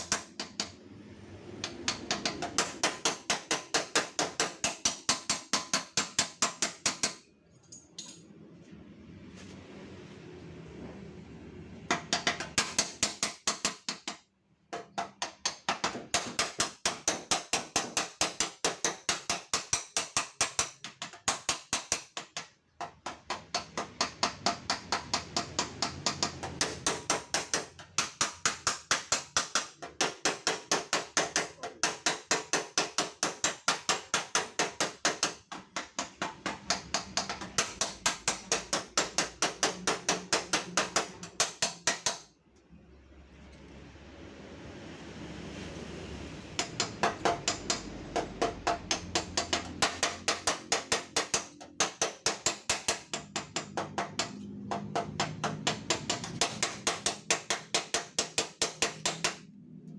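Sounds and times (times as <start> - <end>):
hammer tapping on steel panel: 0.0 - 0.8, 1.6 - 7.2, 11.9 - 42.3, 46.6 - 59.4.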